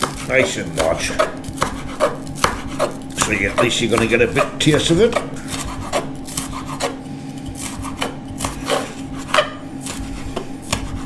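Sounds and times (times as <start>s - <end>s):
knife chopping on a board: 0.0s - 11.0s
steady low hum: 0.0s - 11.0s.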